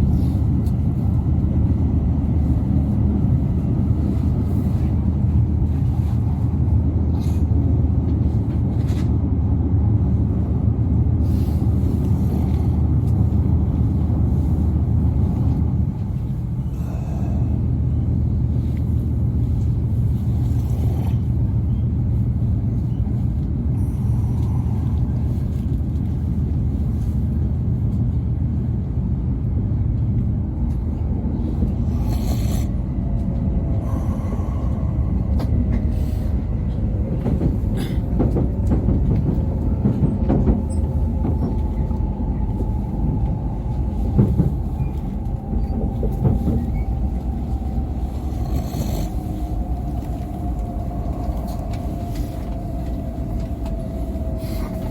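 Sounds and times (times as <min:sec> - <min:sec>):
train low rumble: 0:00.0 - 0:54.9.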